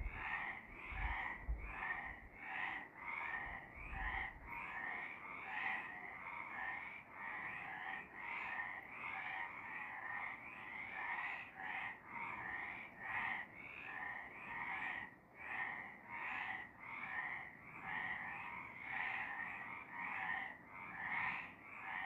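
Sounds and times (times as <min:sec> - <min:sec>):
frogs croaking in chorus: 0:00.0 - 0:22.0.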